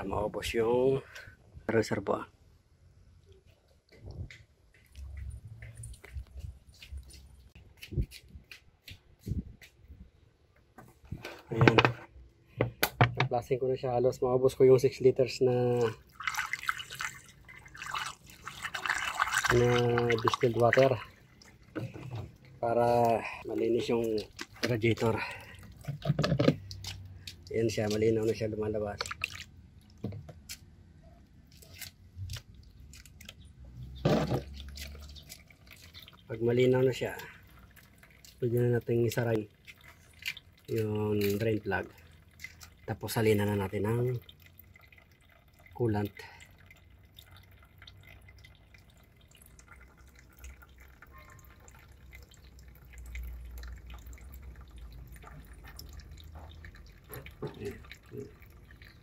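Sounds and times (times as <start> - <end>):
water dripping into plastic basin: 3.9 - 9.0, 15.4 - 30.8, 31.4 - 59.0.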